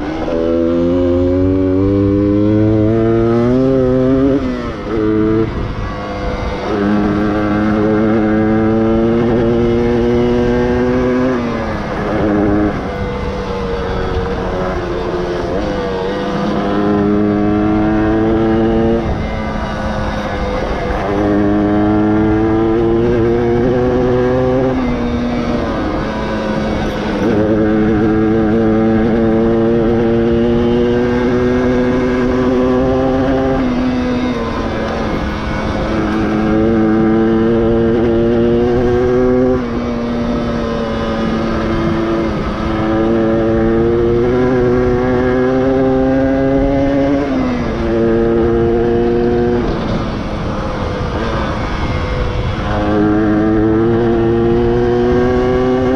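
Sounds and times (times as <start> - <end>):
motorcycle engine under load: 0.0 - 55.9.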